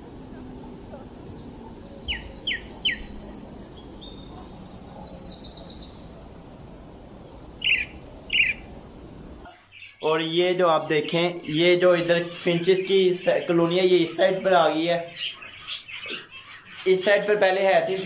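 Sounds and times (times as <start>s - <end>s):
finches chirping and trilling: 1.2s - 6.4s, 7.6s - 8.7s, 9.6s - 18.0s.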